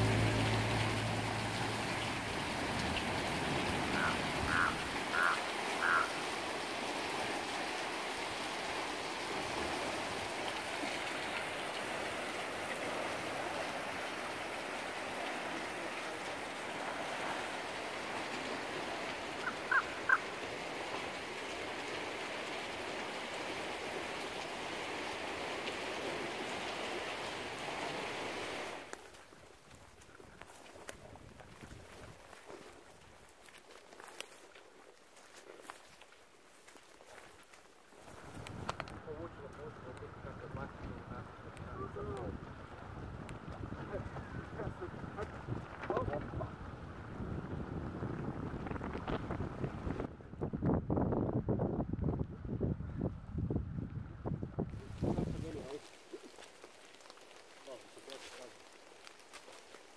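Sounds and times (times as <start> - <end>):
rushing water: 0.0 - 50.1, 54.8 - 59.9.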